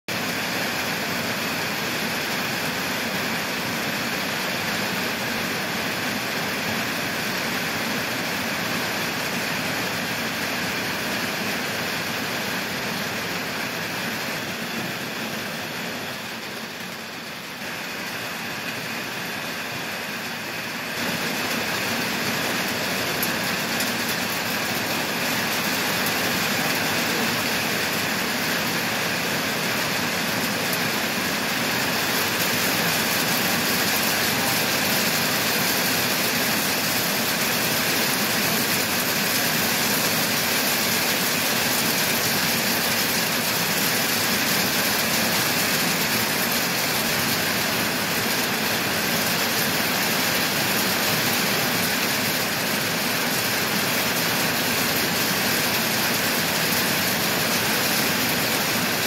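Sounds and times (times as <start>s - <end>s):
heavy rain pouring: 0.1s - 59.0s.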